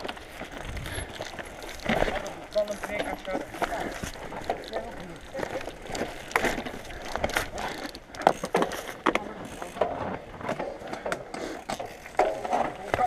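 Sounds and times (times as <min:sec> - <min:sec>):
mountain bike rattling over rocks: 0:00.0 - 0:13.0.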